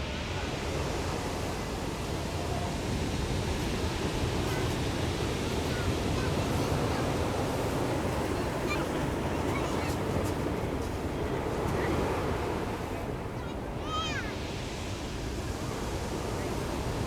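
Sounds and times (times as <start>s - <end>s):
faint distant voices: 0.2s - 17.0s
ocean surf breaking: 2.9s - 17.0s.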